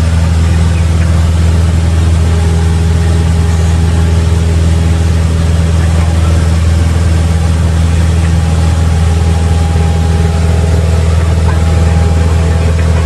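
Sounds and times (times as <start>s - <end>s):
airflow rushing: 0.0s - 13.0s
propeller plane engine droning: 0.0s - 13.0s.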